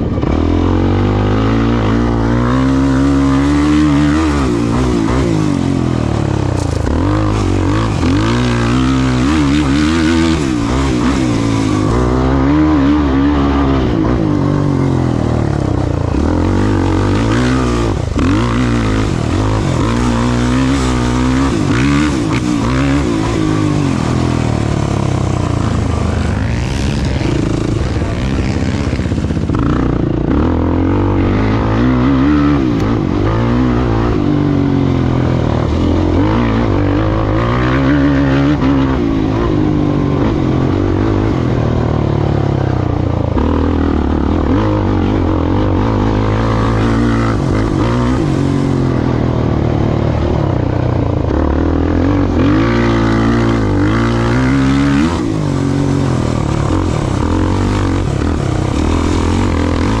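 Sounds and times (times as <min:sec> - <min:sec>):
race vehicle engine revving: 0:00.0 - 1:00.0.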